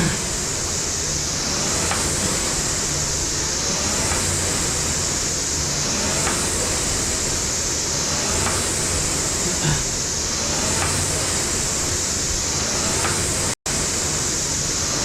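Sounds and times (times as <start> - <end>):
rowing machine flywheel whooshing: 0.0 - 15.0.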